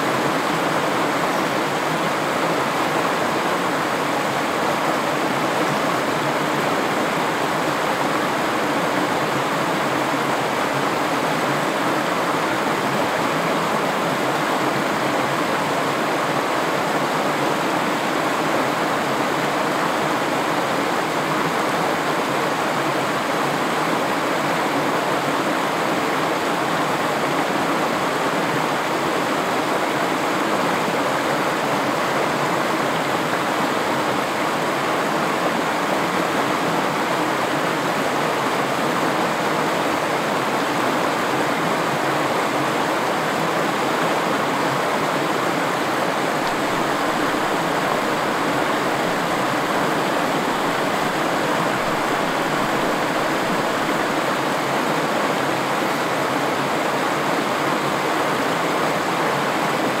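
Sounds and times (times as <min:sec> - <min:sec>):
stream rushing over rocks: 0:00.0 - 1:00.0.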